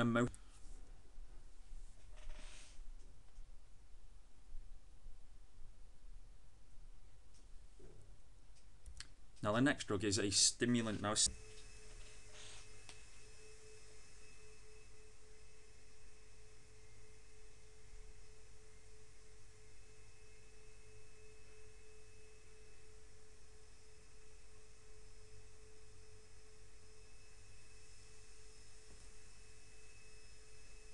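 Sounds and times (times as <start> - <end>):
faint steady tone: 0.0 - 30.9
low hum and hiss: 0.0 - 30.9.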